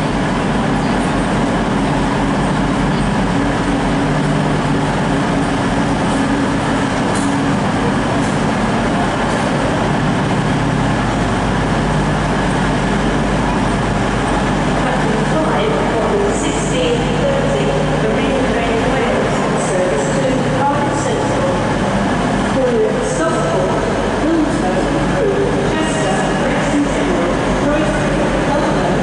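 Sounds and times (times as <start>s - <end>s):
train diesel engines idling: 0.0s - 29.0s.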